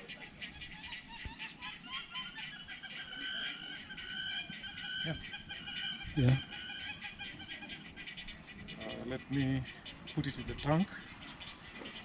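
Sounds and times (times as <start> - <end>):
birds chattering: 0.0 - 12.0.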